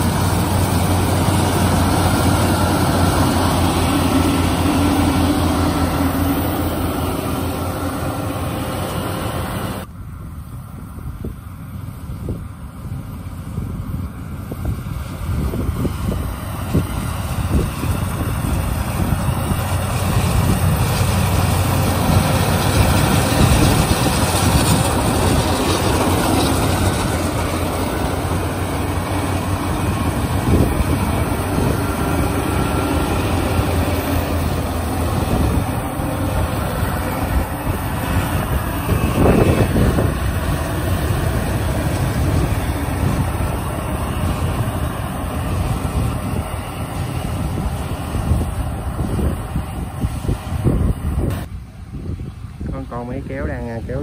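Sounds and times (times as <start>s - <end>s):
combine harvester diesel drone: 0.0s - 54.0s.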